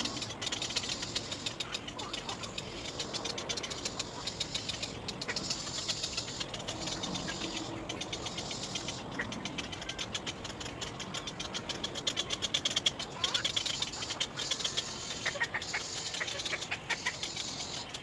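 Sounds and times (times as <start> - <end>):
egret chicks ticking begging calls: 0.0 - 18.0.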